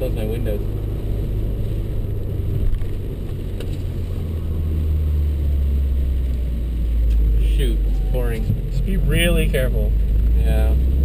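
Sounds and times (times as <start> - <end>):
car engine droning: 0.0 - 11.0
tyre noise on wet road: 0.0 - 11.0.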